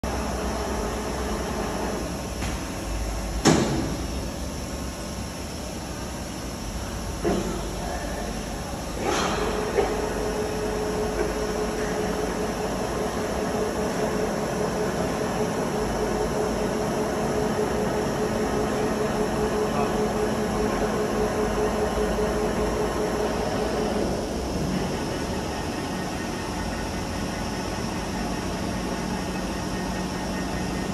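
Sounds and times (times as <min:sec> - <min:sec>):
lathe running hum and whine: 0:00.0 - 0:30.9.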